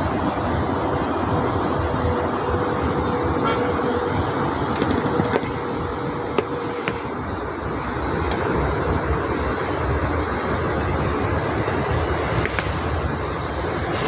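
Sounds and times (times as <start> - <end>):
faint steady hum: 0.0 - 14.0
steady rushing noise: 0.0 - 14.0.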